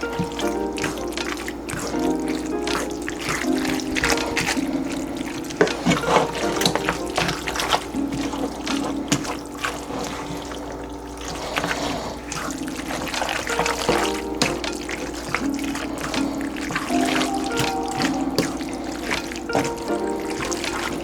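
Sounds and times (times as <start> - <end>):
background music: 0.0 - 9.6, 13.1 - 21.0
water running and splashing: 0.0 - 21.0.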